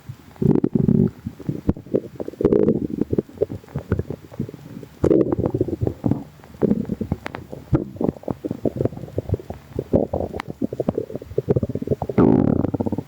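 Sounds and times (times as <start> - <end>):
stomach rumbling and gurgling: 0.0 - 13.0.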